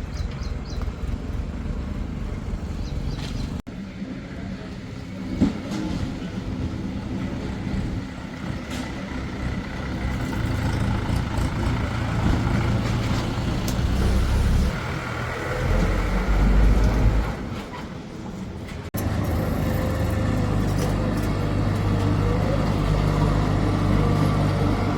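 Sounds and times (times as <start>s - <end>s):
heavy diesel engine running: 0.0s - 17.6s, 19.0s - 24.9s.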